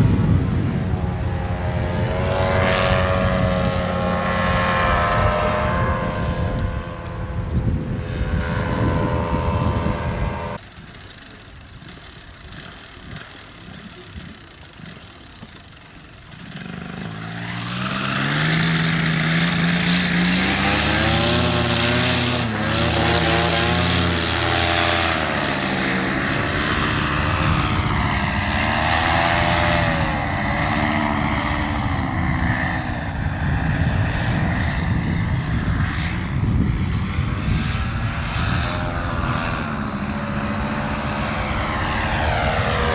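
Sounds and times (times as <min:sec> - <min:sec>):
paramotor engine and propeller: 0:00.0 - 0:42.9.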